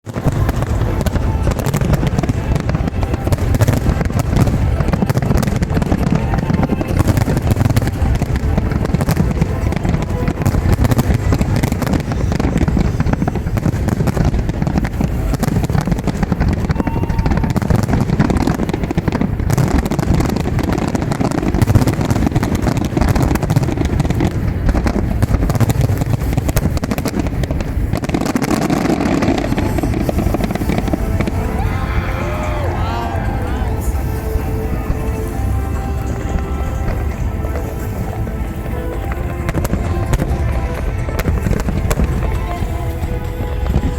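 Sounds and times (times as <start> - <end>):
crowd voices: 0.0 - 43.9
fireworks bangs and crackles: 0.0 - 43.9.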